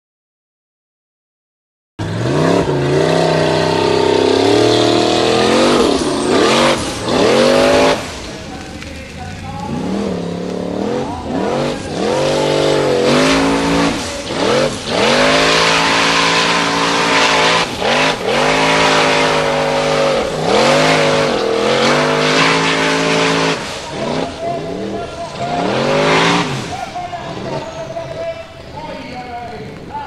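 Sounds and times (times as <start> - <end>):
buggy engine revving: 2.0 - 30.0.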